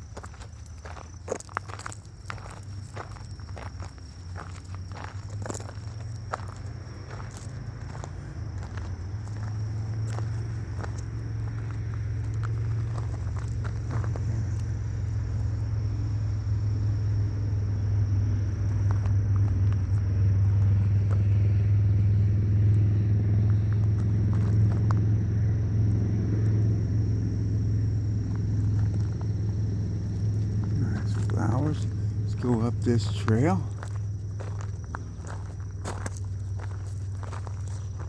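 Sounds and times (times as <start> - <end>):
low engine rumble: 0.0 - 38.0.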